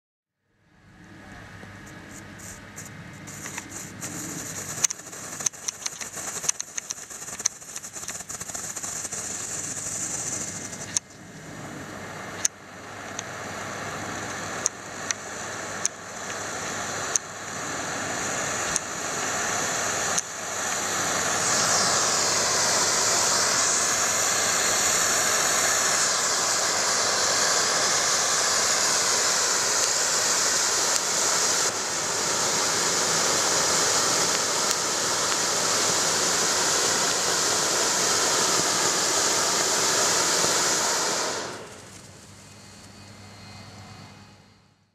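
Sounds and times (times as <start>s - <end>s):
firework fountain hissing: 1.8s - 42.8s.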